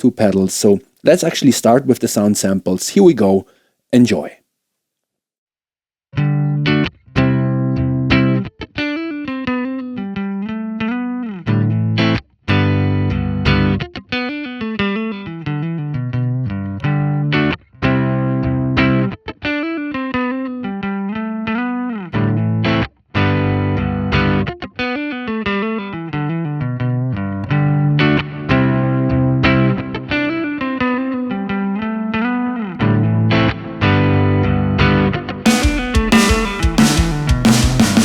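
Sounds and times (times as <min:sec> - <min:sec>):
distorted electric guitar riff: 0:06.2 - 0:38.0.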